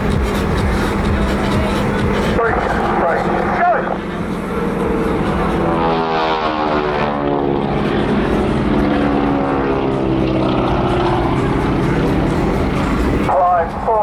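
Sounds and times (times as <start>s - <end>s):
biplanes flying past: 0.0s - 14.0s.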